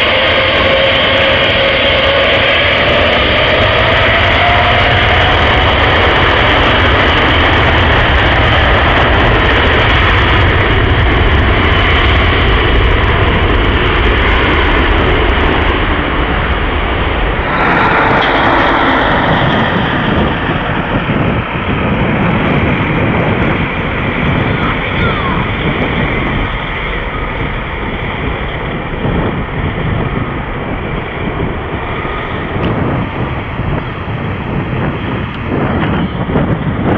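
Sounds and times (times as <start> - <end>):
jet engine roar at takeoff: 0.0 - 36.9.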